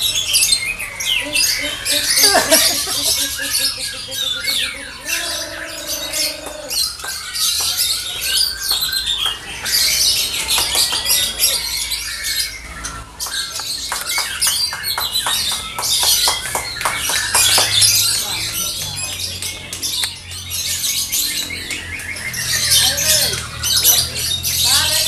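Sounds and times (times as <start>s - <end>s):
lovebirds chattering and trilling: 0.0s - 25.0s
rapid ticking bird notes: 0.0s - 25.0s.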